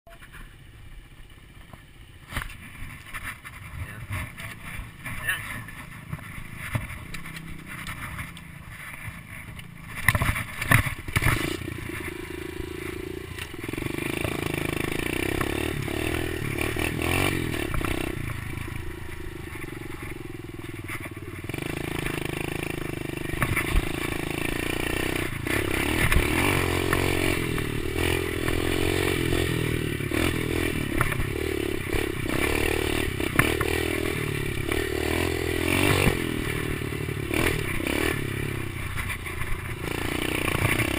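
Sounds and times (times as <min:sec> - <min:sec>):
bike clattering and scraping: 0:00.1 - 0:40.9
motorbike engine revving: 0:00.1 - 0:40.9.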